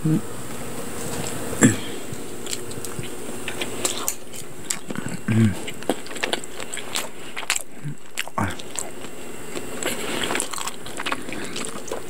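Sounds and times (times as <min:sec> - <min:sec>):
chewing crunchy bread: 0:00.9 - 0:12.0.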